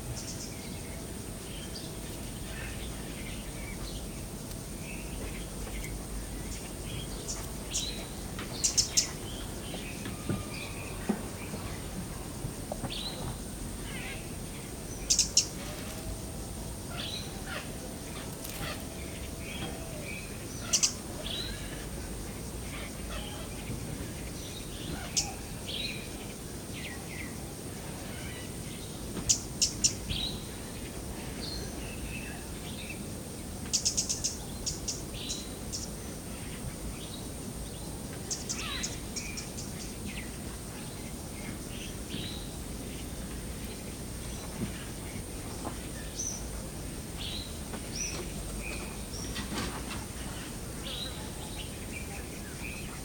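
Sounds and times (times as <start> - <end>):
wild birds chirping: 0.0 - 53.0.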